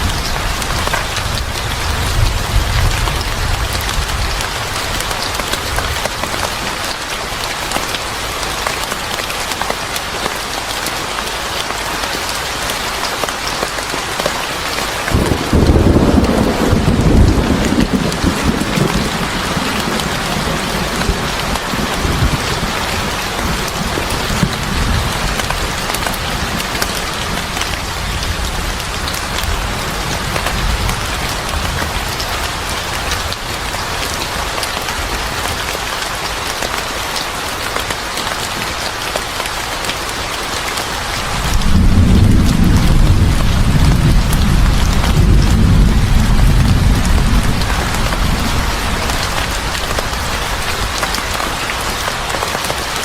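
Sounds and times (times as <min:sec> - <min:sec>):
heavy rain pattering: 0:00.0 - 0:53.0.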